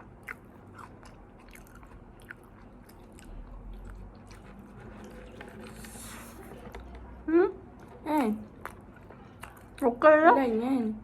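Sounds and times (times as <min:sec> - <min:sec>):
person chewing food: 0:00.0 - 0:06.9, 0:07.7 - 0:09.9.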